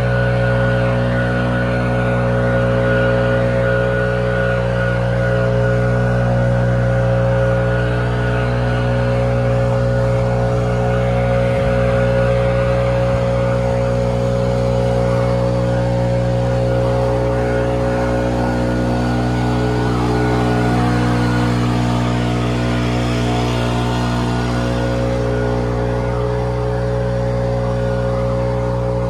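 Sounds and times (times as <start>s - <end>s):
engine humming steadily: 0.0s - 29.0s.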